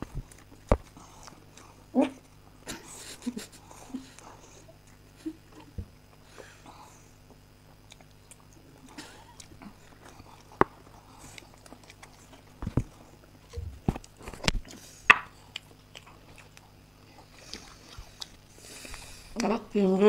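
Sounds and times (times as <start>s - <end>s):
person chewing: 0.0s - 19.5s.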